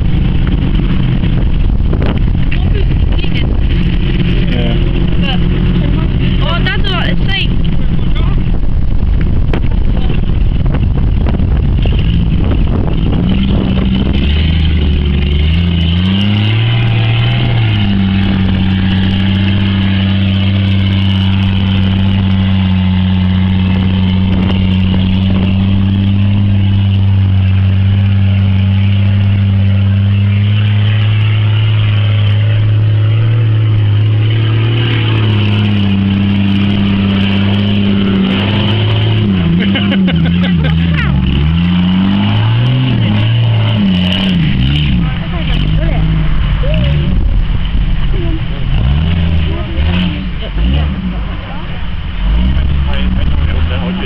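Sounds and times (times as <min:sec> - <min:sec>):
off-road vehicle engine revving: 0:00.0 - 0:54.0
rough engine rumble: 0:00.0 - 0:54.0.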